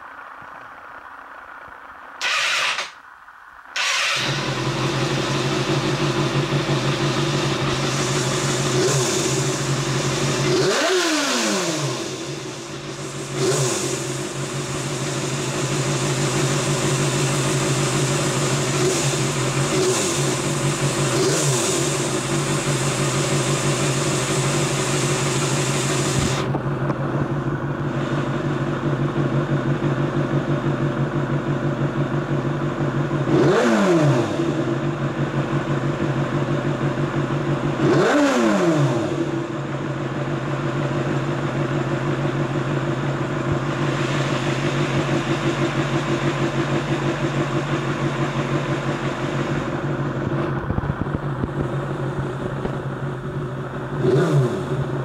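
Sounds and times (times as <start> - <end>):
motorcycle engine idling: 3.8 - 10.9, 11.7 - 33.6, 34.4 - 38.3, 39.2 - 55.0.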